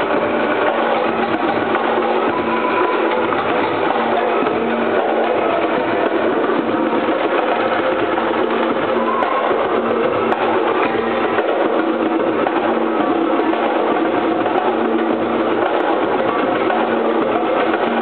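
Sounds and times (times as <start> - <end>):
drums: 0.0 - 18.0.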